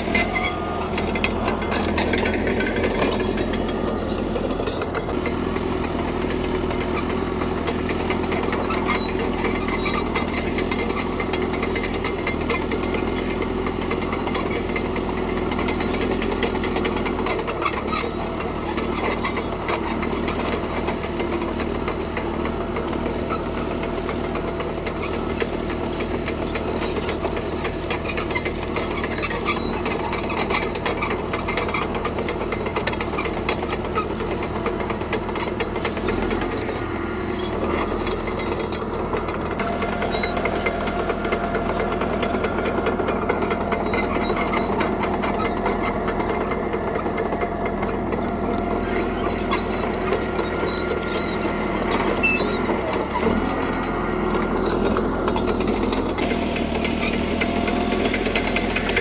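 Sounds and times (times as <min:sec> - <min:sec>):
dozer diesel engine running: 0:00.0 - 0:59.0.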